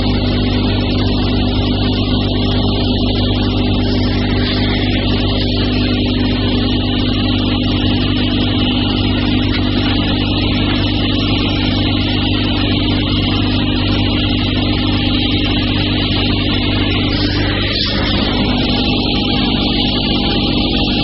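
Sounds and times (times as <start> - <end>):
electric motor hum: 0.0 - 21.0
whirring rush: 0.0 - 21.0.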